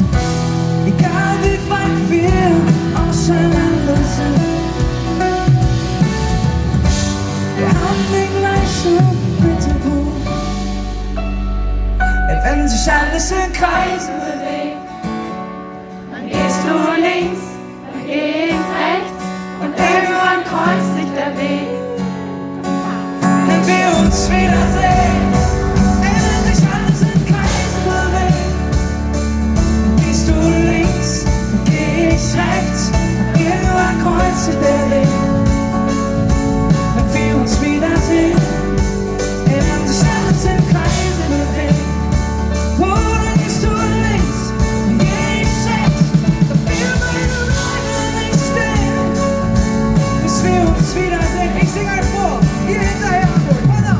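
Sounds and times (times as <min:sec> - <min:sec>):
bass guitar: 0:00.0 - 0:14.3, 0:19.5 - 0:53.9
drums: 0:00.0 - 0:53.9
electric guitar: 0:00.0 - 0:53.9
person singing: 0:00.8 - 0:05.7, 0:07.4 - 0:10.8, 0:12.0 - 0:15.2, 0:16.0 - 0:53.9.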